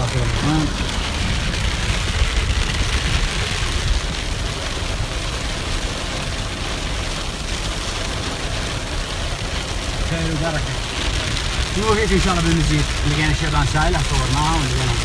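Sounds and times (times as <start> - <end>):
low vehicle rumble: 0.0 - 15.0
steady rain falling: 0.0 - 15.0.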